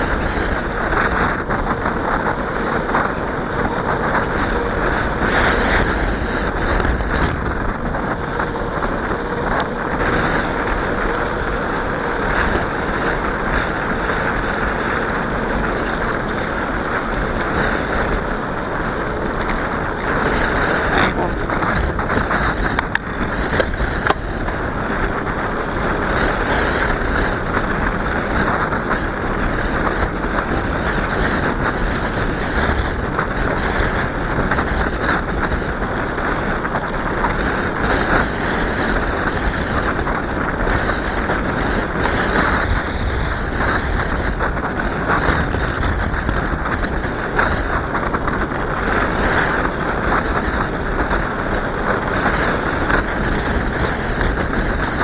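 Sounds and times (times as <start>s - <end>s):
air rushing past microphone: 0.0s - 55.0s
bicycle tyres on pavement: 0.0s - 55.0s.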